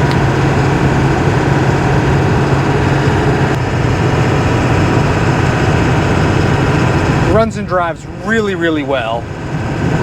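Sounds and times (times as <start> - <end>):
diesel engine humming: 0.0 - 10.0
road and tyre noise: 0.0 - 10.0.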